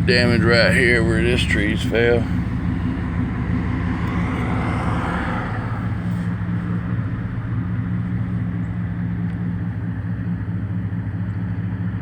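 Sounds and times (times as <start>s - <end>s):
car engine humming: 0.0s - 12.0s
road noise rushing: 0.0s - 12.0s.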